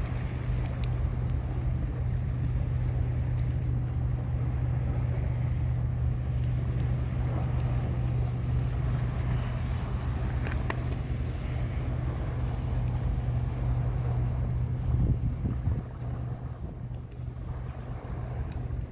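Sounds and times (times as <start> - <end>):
low motor hum: 0.0 - 18.9
wind noise on microphone: 0.0 - 18.9.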